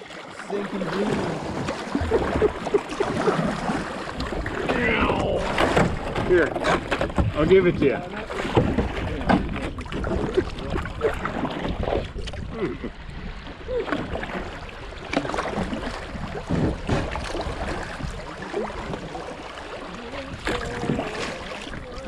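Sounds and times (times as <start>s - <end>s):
water gurgling and splashing: 0.0s - 22.0s.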